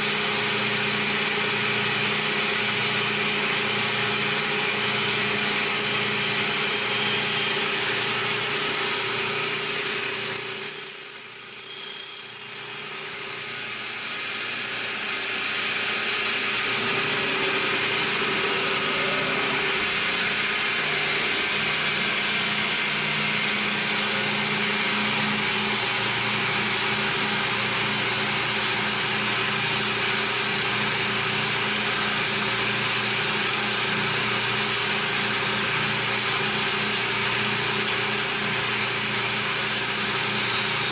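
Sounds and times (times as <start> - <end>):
machine whine: 0.0 - 40.9
milling machine drone: 0.0 - 40.9.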